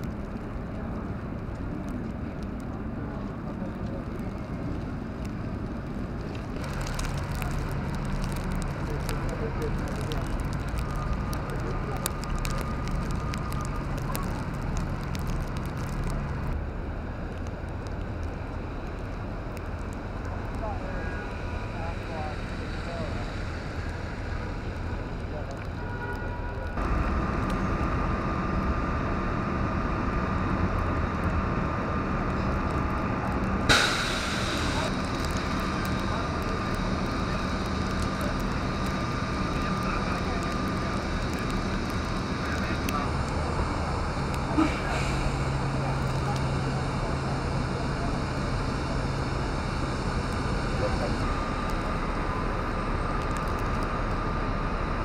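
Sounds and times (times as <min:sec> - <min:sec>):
low rumble of traffic: 0:00.0 - 0:55.0.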